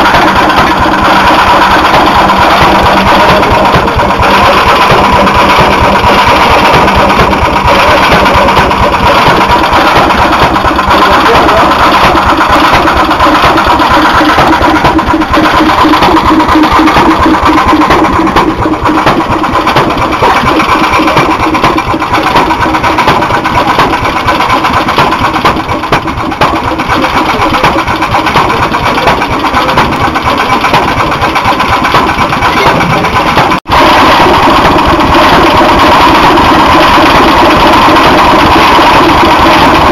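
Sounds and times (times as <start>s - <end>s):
stationary gas engines chugging: 0.0s - 39.9s.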